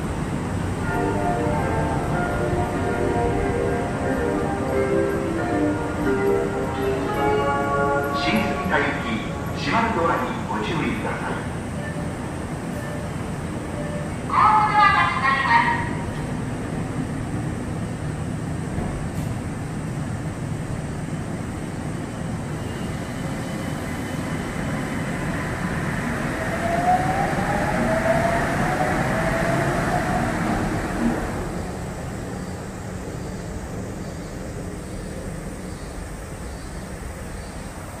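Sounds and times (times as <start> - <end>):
train inverter whining: 0.0 - 38.0
train running noise: 0.0 - 38.0.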